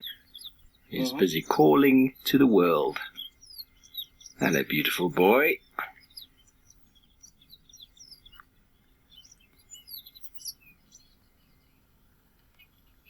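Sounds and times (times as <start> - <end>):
canary singing: 0.0 - 11.8.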